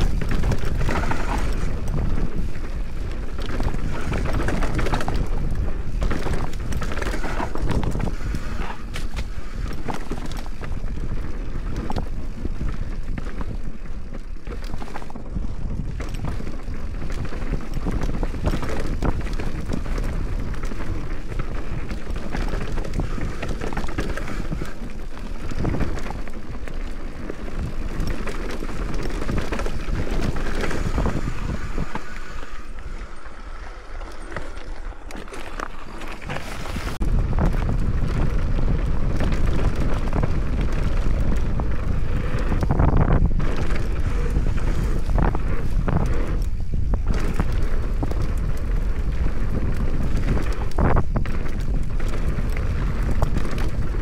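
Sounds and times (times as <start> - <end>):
wind buffeting microphone: 0.0 - 34.9, 35.6 - 54.0
bike rattling and knocking: 0.0 - 54.0
tyres rumbling over dirt and rock: 0.0 - 54.0.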